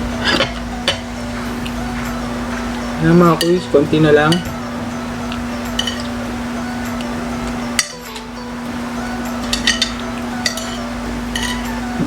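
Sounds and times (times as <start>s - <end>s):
steady low hum: 0.0s - 12.0s
cutlery clinking against dishes: 0.1s - 8.5s, 9.1s - 12.0s.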